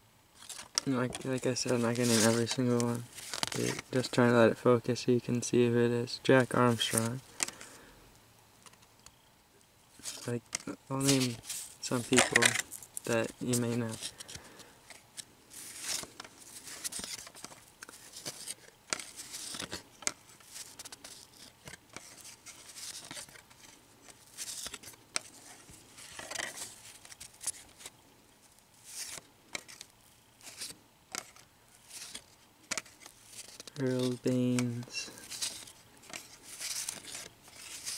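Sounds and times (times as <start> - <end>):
cards being flipped through: 0.4 - 3.9, 6.6 - 7.7, 10.0 - 27.9, 28.8 - 37.9.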